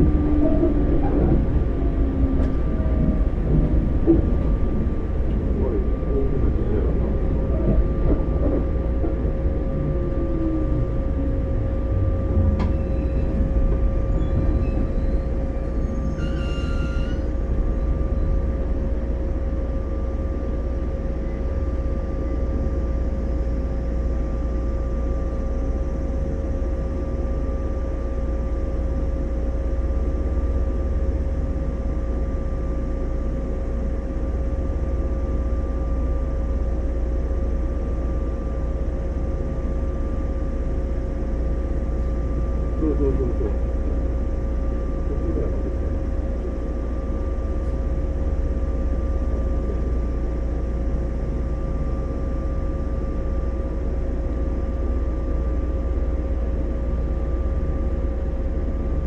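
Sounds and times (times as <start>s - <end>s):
train motor and wheel noise: 0.0s - 59.0s.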